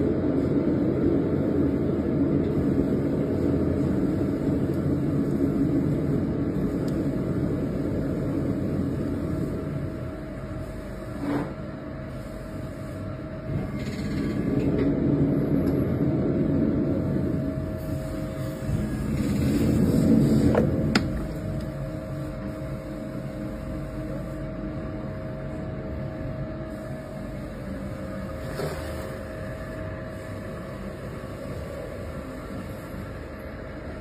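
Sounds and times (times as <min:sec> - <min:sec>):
electric pottery wheel humming: 0:00.0 - 0:34.0.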